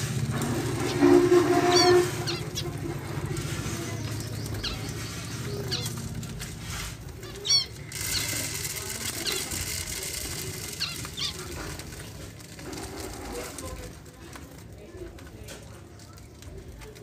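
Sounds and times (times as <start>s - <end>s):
birds chirping: 0.0s - 13.9s
wings flapping: 0.0s - 17.0s.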